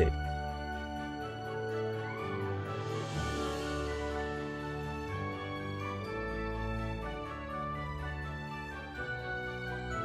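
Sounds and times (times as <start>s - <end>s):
soft instrumental background music: 0.0s - 10.0s.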